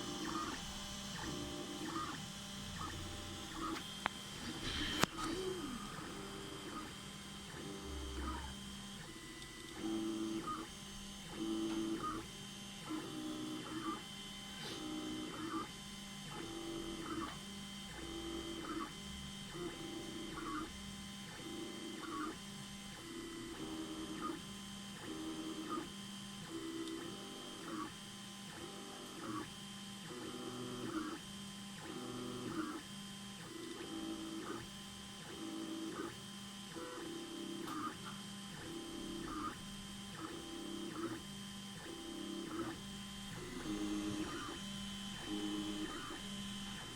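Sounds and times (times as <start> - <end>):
faint electrical hum: 0.0 - 46.9.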